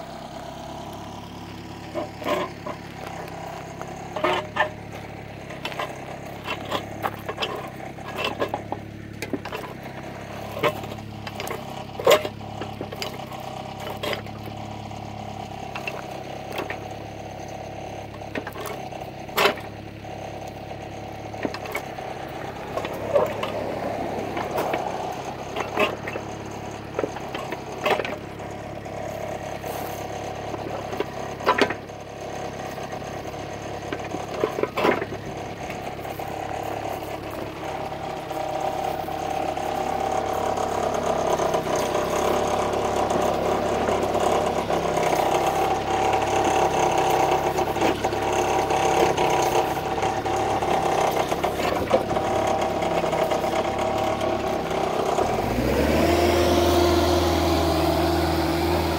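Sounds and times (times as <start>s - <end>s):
diesel excavator engine idling: 0.0s - 58.9s
sharp clicks and crunches: 0.4s - 58.9s.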